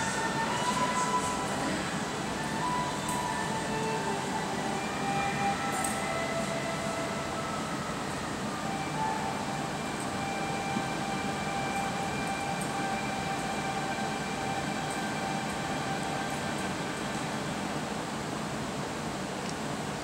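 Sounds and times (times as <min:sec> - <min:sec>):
slow droning music: 0:00.0 - 0:19.4
steady rushing hiss: 0:00.0 - 0:20.0.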